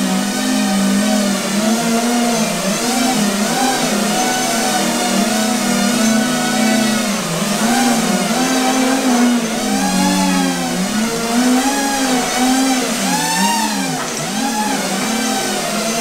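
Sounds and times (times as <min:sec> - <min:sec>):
drone motors buzzing whine: 0:00.0 - 0:16.0.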